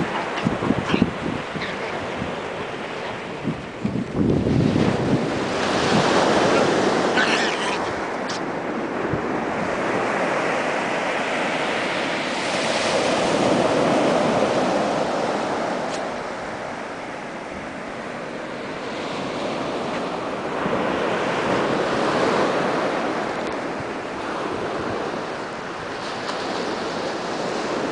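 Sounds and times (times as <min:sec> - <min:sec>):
ocean surf washing onto beach: 0:00.0 - 0:27.9
wind: 0:00.0 - 0:27.9.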